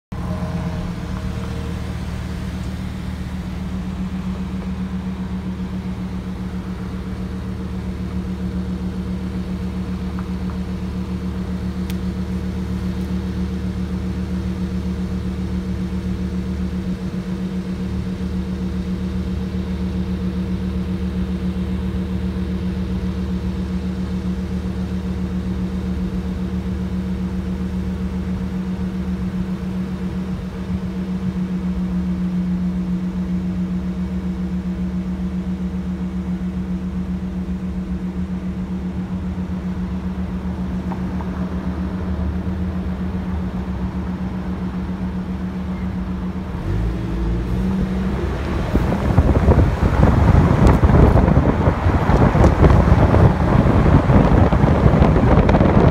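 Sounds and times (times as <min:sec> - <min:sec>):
car engine idling: 0:00.1 - 0:55.9.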